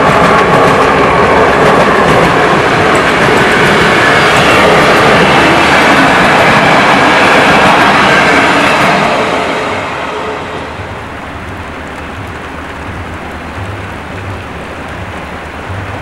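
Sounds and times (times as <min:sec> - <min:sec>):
train coaches rolling on rails: 0:00.0 - 0:16.0.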